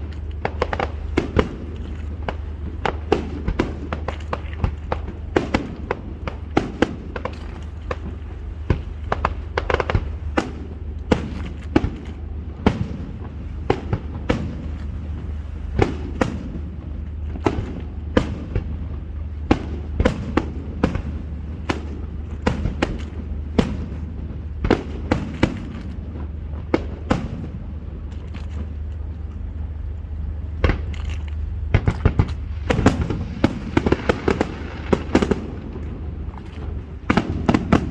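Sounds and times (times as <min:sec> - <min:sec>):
fireworks bangs and crackling: 0:00.0 - 0:28.8, 0:30.6 - 0:30.9, 0:31.6 - 0:37.9
steady low rumble: 0:00.0 - 0:37.9.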